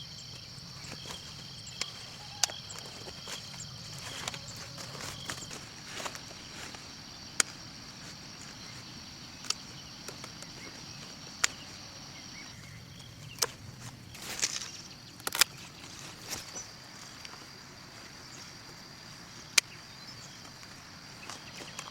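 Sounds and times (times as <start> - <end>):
high insect drone: 0.0 - 21.9.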